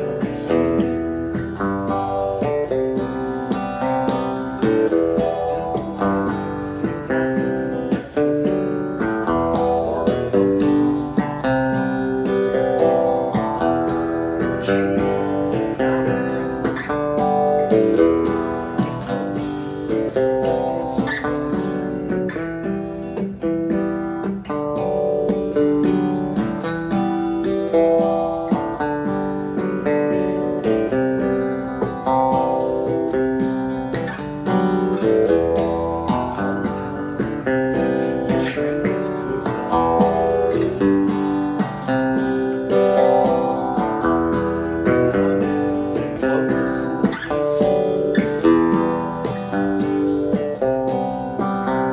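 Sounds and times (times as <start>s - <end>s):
acoustic guitar music: 0.0s - 51.9s.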